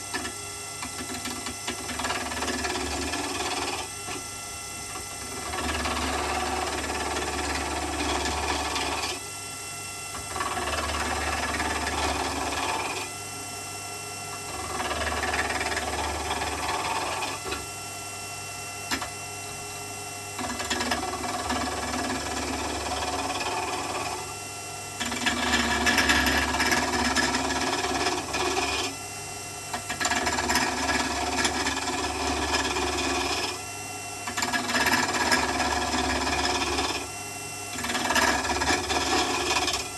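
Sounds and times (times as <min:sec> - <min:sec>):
turning tool scraping wood: 0:00.0 - 0:09.2, 0:10.1 - 0:13.2, 0:14.3 - 0:17.7, 0:20.4 - 0:29.0, 0:29.7 - 0:39.9
wood lathe motor hum: 0:00.0 - 0:39.9.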